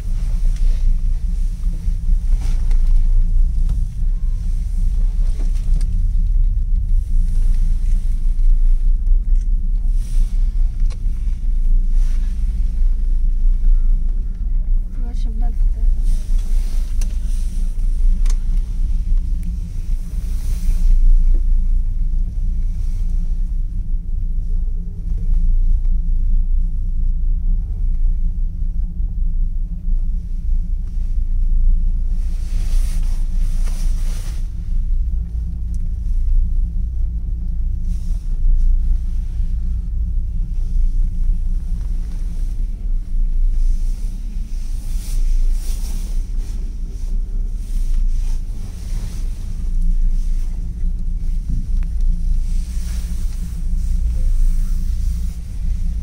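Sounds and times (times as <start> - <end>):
cable car cabin rumble: 0.0 - 56.0.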